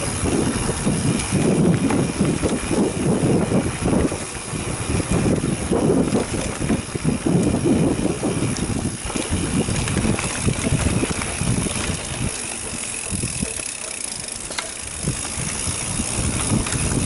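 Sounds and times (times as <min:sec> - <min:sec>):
bike rattles and knocks: 0:00.0 - 0:17.0
bike tyres rolling on dirt: 0:00.0 - 0:17.0
wind buffeting microphone: 0:00.0 - 0:17.0.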